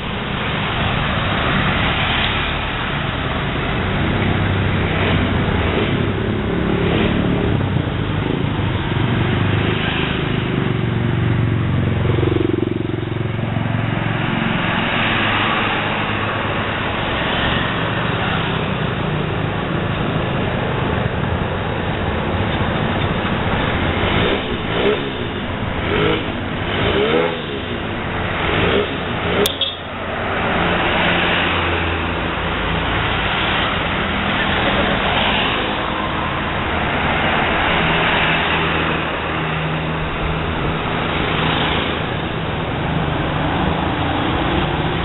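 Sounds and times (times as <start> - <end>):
bus engines revving: 0.0 - 45.0
buses driving past: 0.0 - 45.0
road noise: 0.0 - 45.0.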